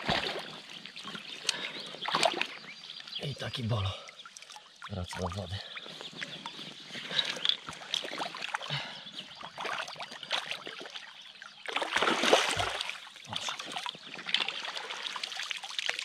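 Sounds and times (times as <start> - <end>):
river water splashing: 0.0 - 3.1, 3.9 - 16.0.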